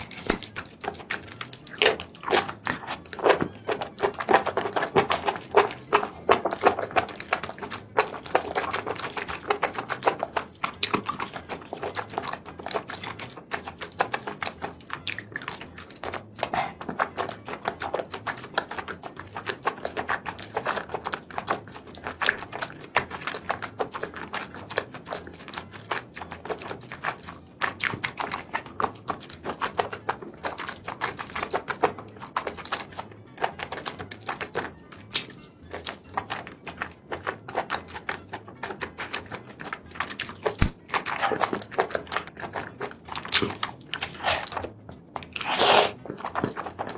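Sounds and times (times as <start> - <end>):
wet mouth chewing clicks and smacks: 0.0 - 46.9.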